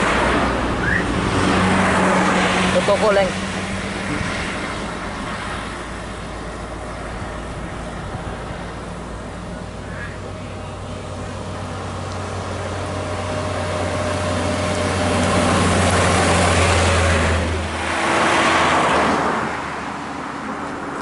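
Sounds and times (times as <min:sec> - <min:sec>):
heavy vehicle engine drone: 0:00.0 - 0:21.0
tyre noise on road: 0:00.0 - 0:21.0.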